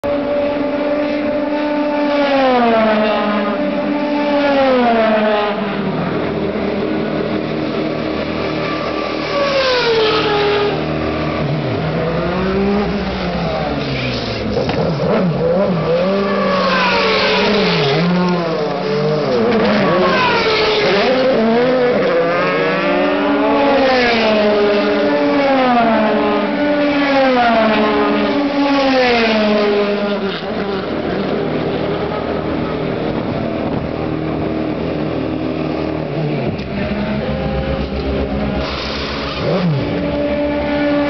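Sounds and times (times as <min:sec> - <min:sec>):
race car engines passing: 0:00.0 - 0:41.0.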